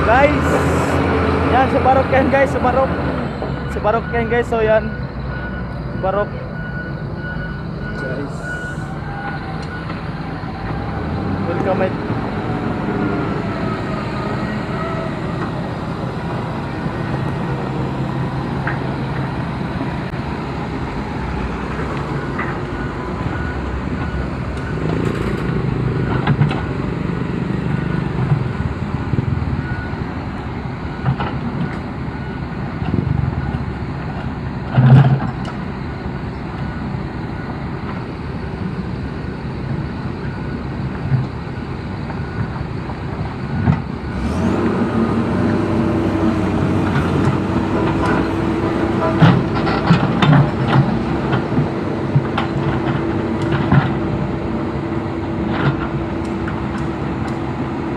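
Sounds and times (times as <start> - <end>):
heavy machinery engine running: 0.0 - 57.9.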